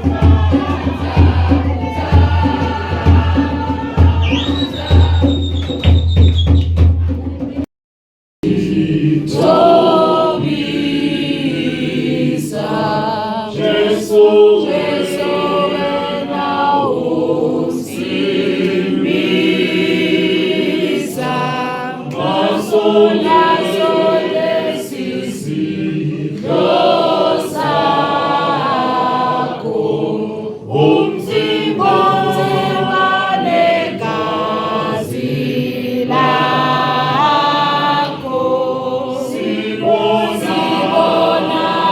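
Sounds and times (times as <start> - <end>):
choir singing: 0.0 - 5.5, 8.4 - 41.9.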